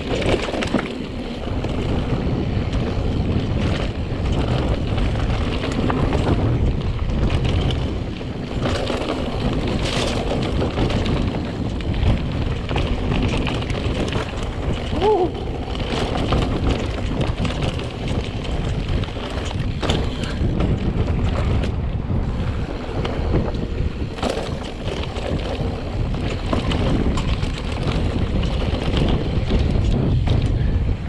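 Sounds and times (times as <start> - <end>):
bike rattling and clicking: 0.0 - 31.0
tyres rumbling on dirt: 0.0 - 31.0
wind buffeting microphone: 0.0 - 31.0.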